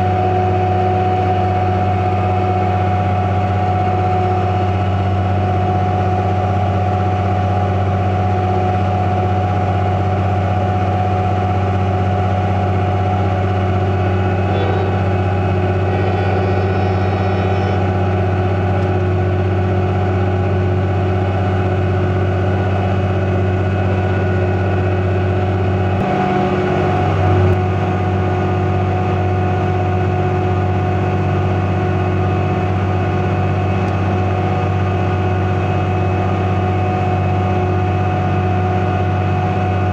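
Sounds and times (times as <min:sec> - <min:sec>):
machinery engine droning: 0:00.0 - 0:39.9.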